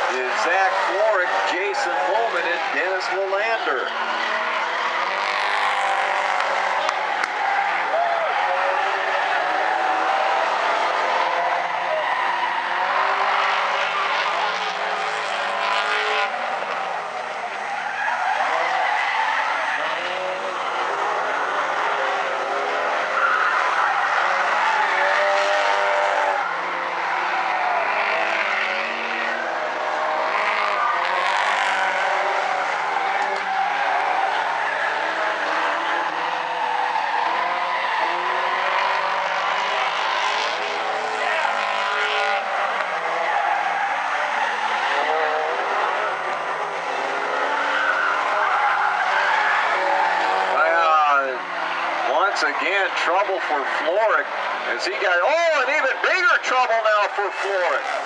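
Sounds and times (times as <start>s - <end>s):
race car engines revving: 0.0s - 58.0s
tyres skidding: 0.0s - 58.0s.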